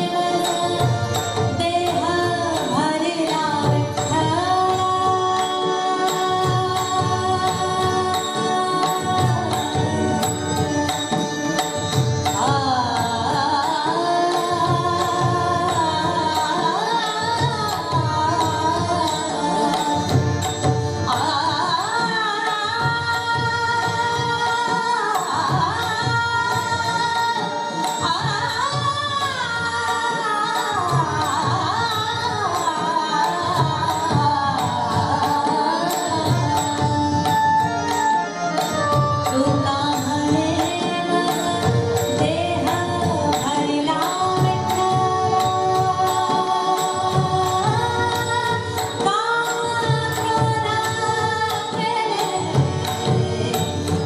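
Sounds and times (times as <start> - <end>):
harmonium notes: 0.0 - 54.0
woman singing: 0.0 - 54.0.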